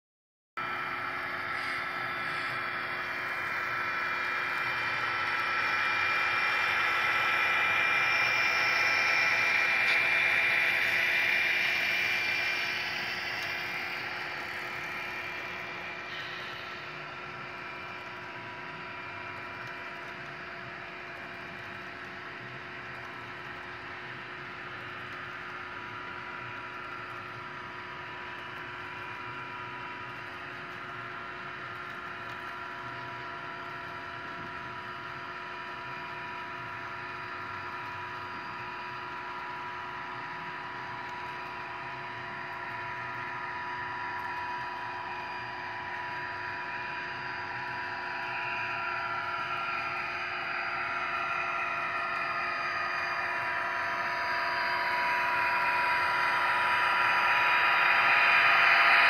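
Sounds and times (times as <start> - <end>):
model train rolling hum: 0.6 - 59.0.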